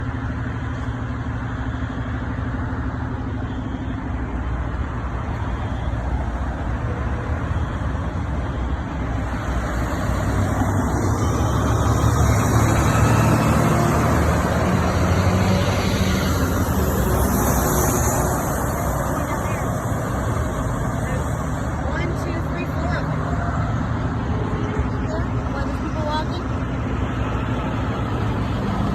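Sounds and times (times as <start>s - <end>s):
vehicle engine rumble: 0.0s - 28.9s.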